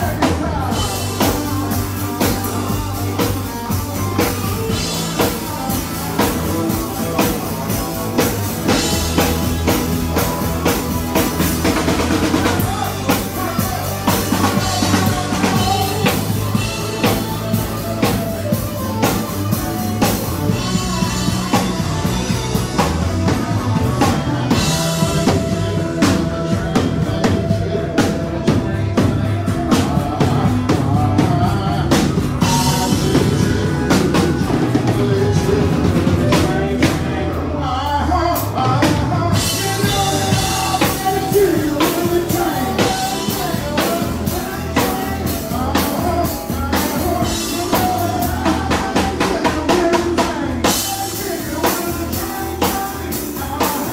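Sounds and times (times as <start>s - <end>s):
drum kit beat: 0.0s - 53.9s
live rock band playing: 0.0s - 53.9s.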